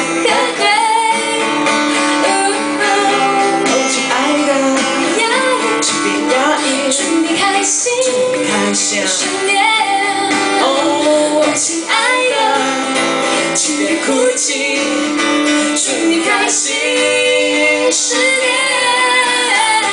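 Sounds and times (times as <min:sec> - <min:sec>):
acoustic guitar: 0:00.0 - 0:19.9
woman singing into a microphone: 0:00.0 - 0:19.9.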